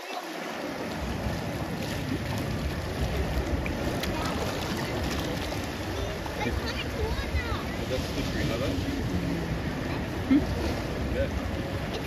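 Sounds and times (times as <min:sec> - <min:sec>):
water lapping: 0:00.0 - 0:12.0
wind buffeting the microphone: 0:00.8 - 0:12.0.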